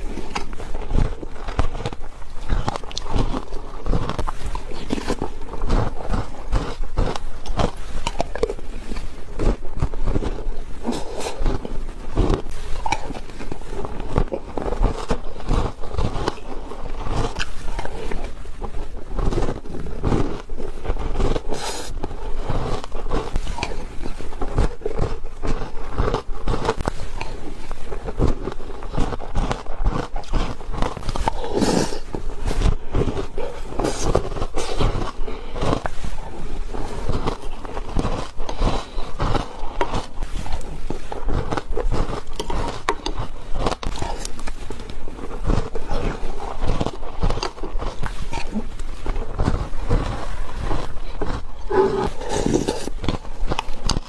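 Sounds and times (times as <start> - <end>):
crunching and chewing ice: 0.0 - 54.0
ice scraping: 0.0 - 54.0.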